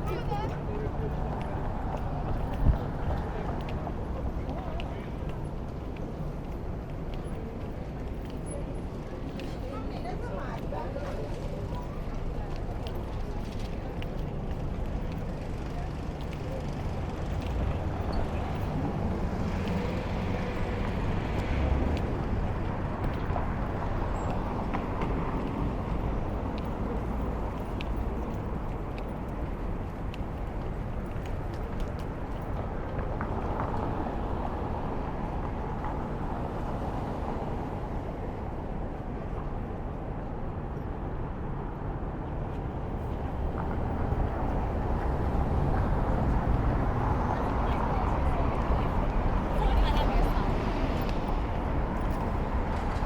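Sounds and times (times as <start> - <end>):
rumble of passing vehicles: 0.0 - 53.0.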